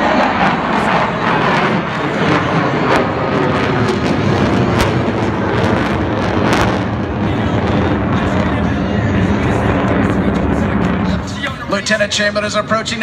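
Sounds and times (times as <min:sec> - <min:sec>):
jet engine noise overhead: 0:00.0 - 0:13.0.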